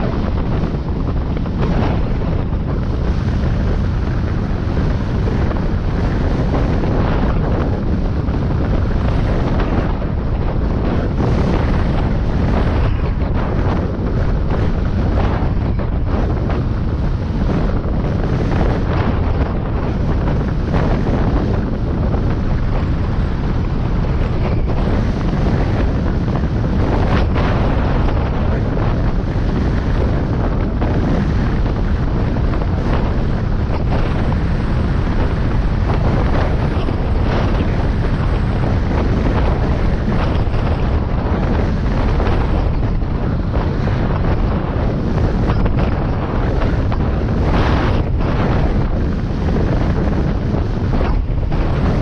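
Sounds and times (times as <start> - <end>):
car driving rumble: 0.0 - 52.0
wind on microphone: 0.0 - 52.0.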